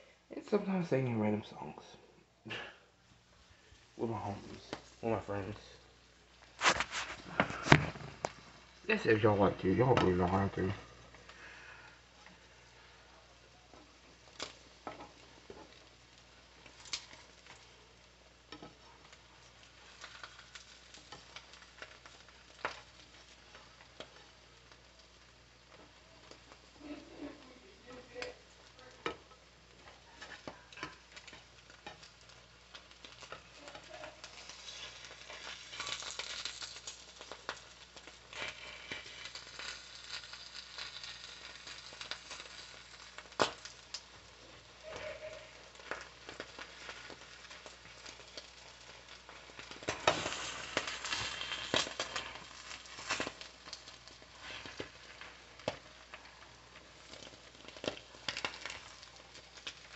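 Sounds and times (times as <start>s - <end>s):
eggs sizzling in a pan: 0.0s - 59.9s.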